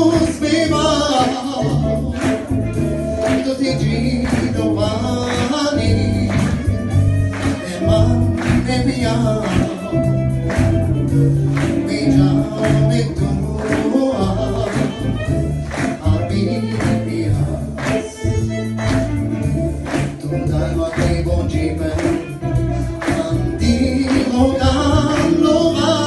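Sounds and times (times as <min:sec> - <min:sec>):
man singing into a microphone: 0:00.0 - 0:10.4, 0:11.6 - 0:18.2, 0:20.0 - 0:26.0
band with a steady beat: 0:00.0 - 0:26.0
violin: 0:00.0 - 0:26.0.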